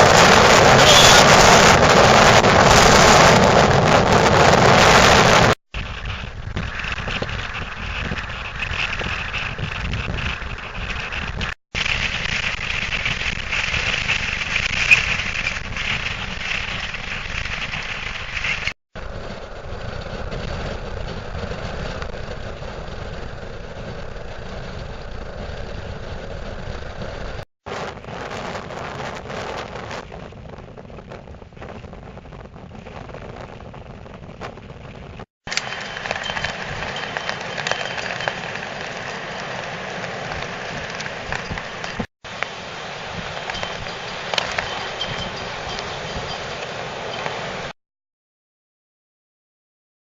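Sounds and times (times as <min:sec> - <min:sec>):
strong wind buffeting microphone: 0:00.0 - 0:47.7.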